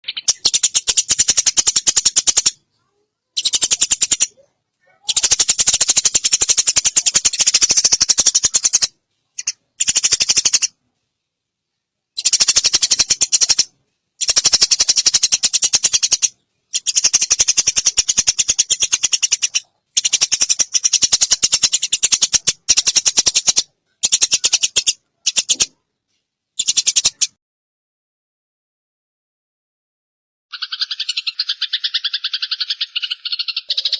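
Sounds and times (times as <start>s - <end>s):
sparrow chattering: 0.0s - 10.8s, 12.2s - 25.8s, 26.6s - 27.4s, 30.5s - 33.9s.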